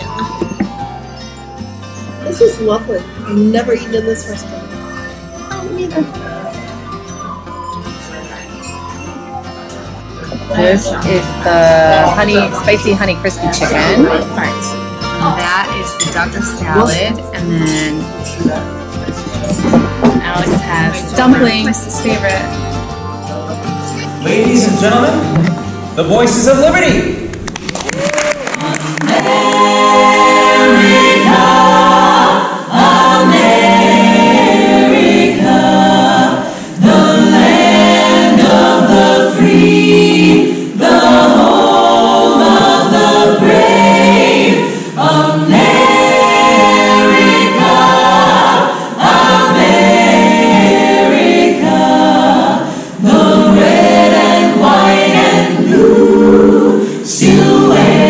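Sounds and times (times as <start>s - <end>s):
vocal ensemble singing in harmony: 0.0s - 27.3s, 28.4s - 58.0s.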